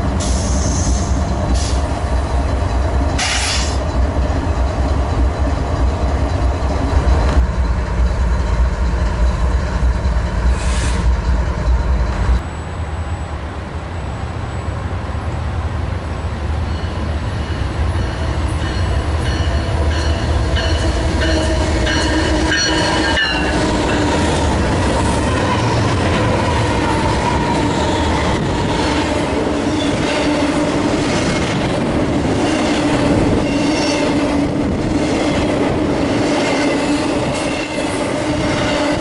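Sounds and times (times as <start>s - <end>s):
diesel locomotive rumble: 0.0s - 39.0s
train wheel noise: 0.0s - 39.0s.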